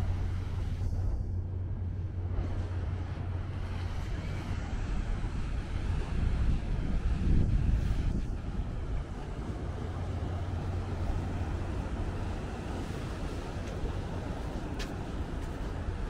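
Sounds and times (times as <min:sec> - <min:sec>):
low city hum: 0:00.0 - 0:16.0.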